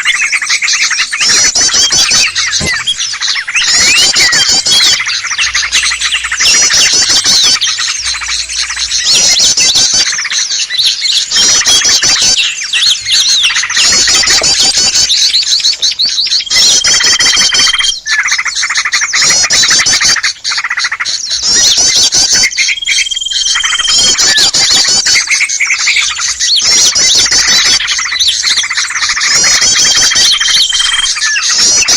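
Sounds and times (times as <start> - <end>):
songbirds chirping in chorus: 0.0 - 31.9.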